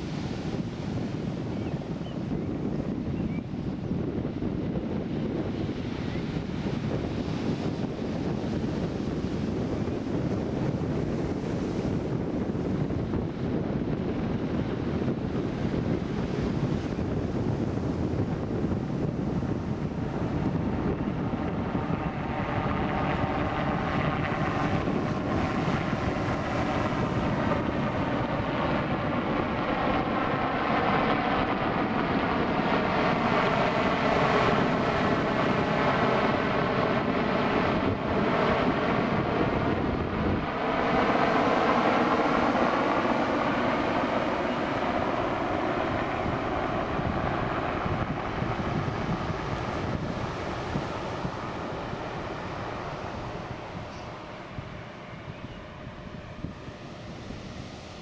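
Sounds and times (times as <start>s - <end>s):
helicopter engine whine: 0.0s - 58.0s
helicopter rotor noise: 0.0s - 58.0s.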